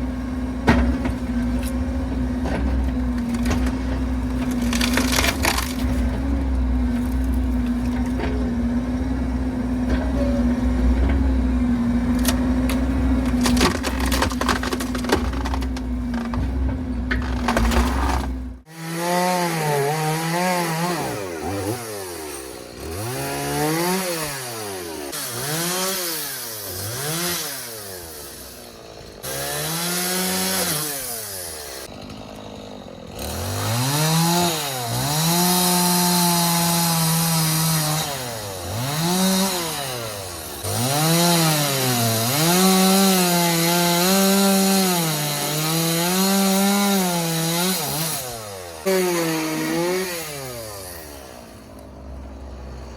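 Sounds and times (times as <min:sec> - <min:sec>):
chainsaw cutting wood: 0:02.9 - 0:09.0, 0:12.1 - 0:16.5, 0:17.2 - 0:52.9.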